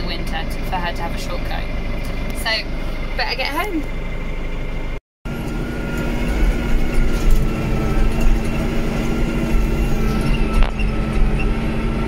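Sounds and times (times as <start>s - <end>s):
low rumble of rough lane: 0.0s - 12.0s
tractor engine hum: 0.0s - 12.0s.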